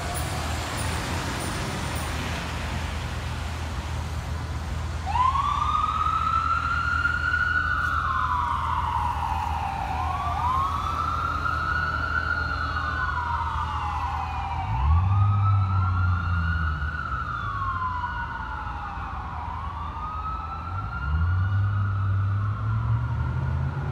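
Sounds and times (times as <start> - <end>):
fire engine siren wailing: 0.0 - 23.9.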